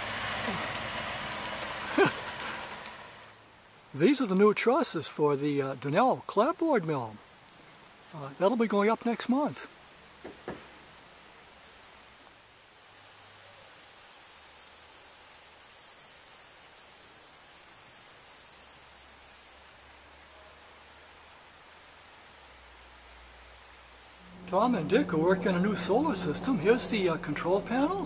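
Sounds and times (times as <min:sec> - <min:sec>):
high-pitched insect drone: 0:00.0 - 0:28.0.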